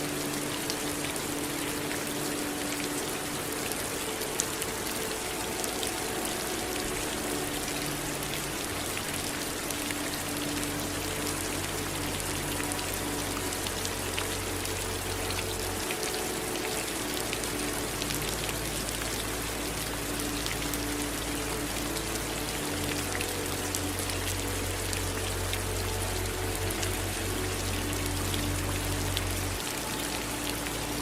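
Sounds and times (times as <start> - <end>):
rain hiss: 0.0 - 31.0
raindrops pattering: 0.0 - 31.0.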